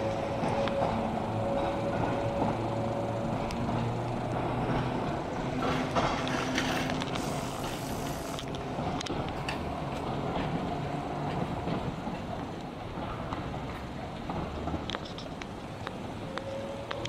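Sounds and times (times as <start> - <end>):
tram humming: 0.0 - 17.0
tram wheels clicking and rattling: 0.0 - 17.0.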